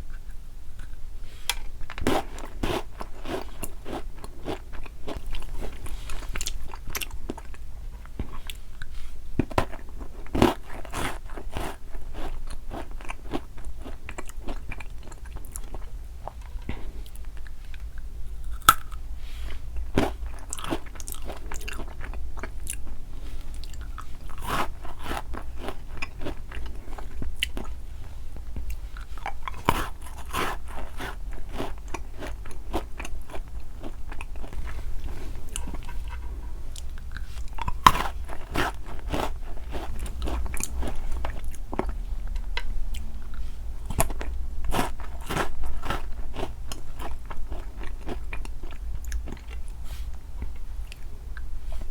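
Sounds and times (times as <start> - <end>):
chewing crunchy sweets: 0.8 - 51.9.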